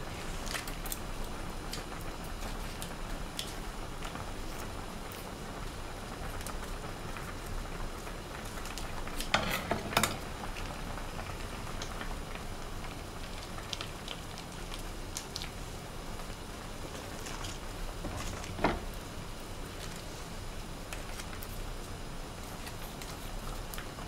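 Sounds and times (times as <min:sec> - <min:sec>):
pot boiling on gas stove: 0:00.0 - 0:24.0.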